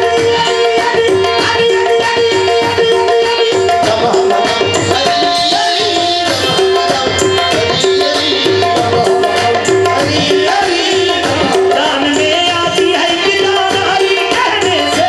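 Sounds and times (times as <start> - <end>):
fast hand-drum rhythm: 0.0 - 15.0
harmonium melody: 0.0 - 15.0.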